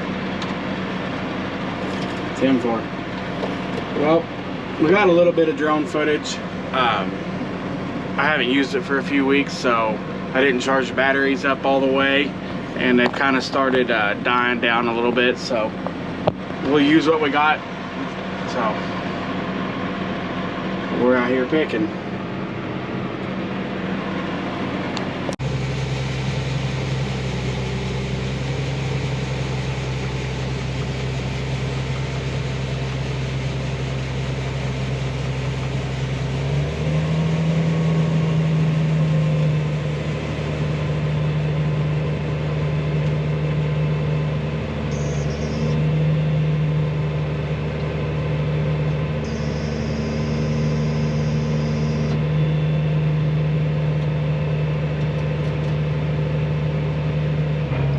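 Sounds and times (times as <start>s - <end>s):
combine harvester engine running: 0.0s - 57.9s.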